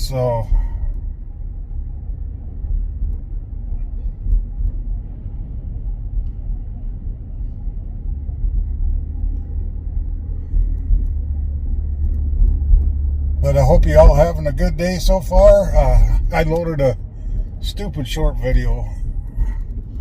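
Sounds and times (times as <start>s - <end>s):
car road noise rumble: 0.0s - 20.0s.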